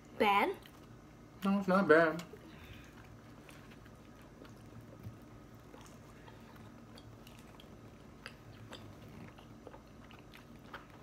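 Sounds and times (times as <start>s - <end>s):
low steady hum: 0.0s - 11.0s
people chewing crunchy pizza: 2.1s - 11.0s.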